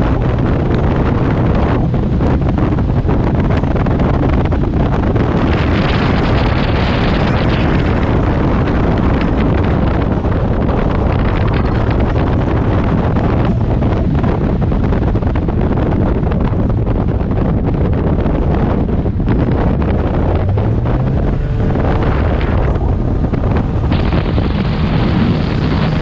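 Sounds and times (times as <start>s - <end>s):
wind buffeting on microphone: 0.0s - 26.0s.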